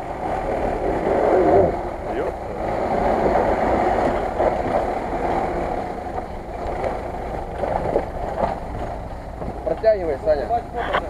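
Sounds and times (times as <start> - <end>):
car engine running under load: 0.0 - 11.0.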